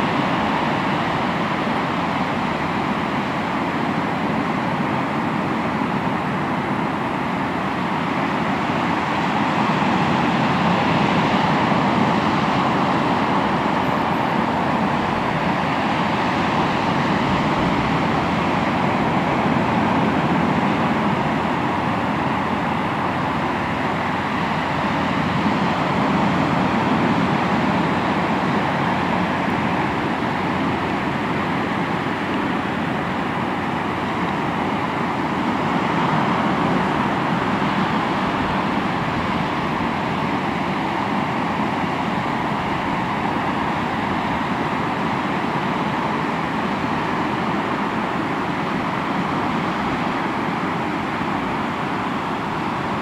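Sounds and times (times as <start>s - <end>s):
sea waves washing ashore: 0.0s - 53.0s.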